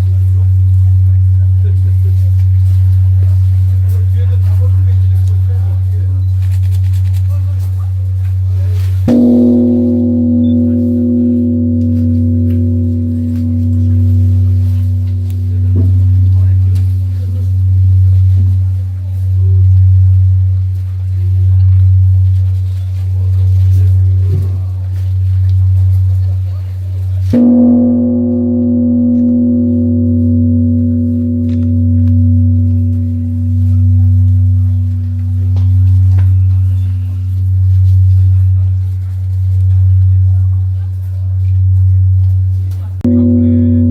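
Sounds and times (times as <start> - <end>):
large temple bell ringing: 0.0 - 6.2, 7.5 - 43.9.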